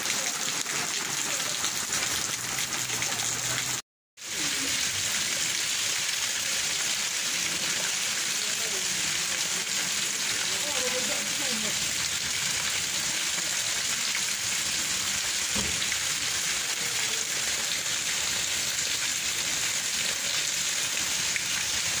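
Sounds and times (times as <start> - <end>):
rain falling on wet street: 0.0 - 22.0.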